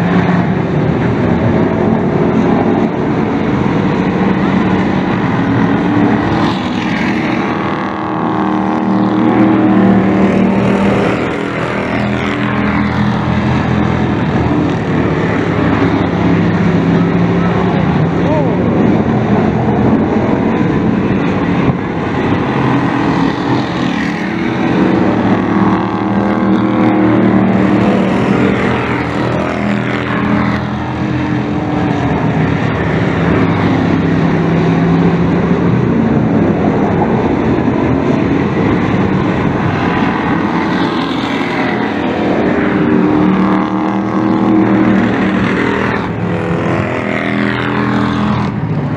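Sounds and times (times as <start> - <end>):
race truck engines passing: 0.0 - 48.9.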